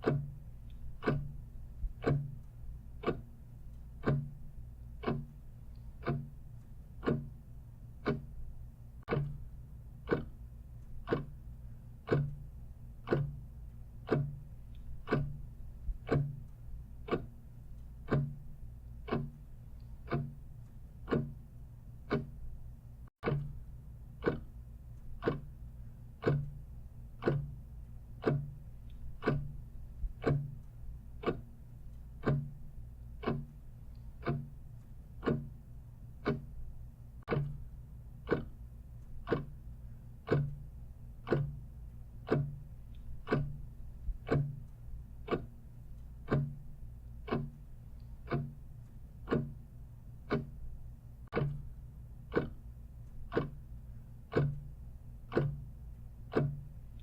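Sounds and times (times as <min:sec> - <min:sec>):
clock ticking: 0:00.0 - 0:57.0
faint low hum: 0:00.0 - 0:57.0.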